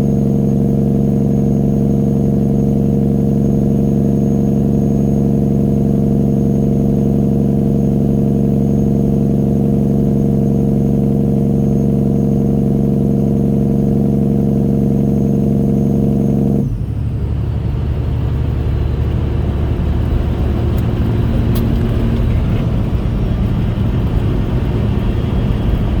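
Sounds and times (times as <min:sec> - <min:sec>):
diesel truck engine droning: 0:00.0 - 0:26.0
low rough engine rumble: 0:00.0 - 0:26.0.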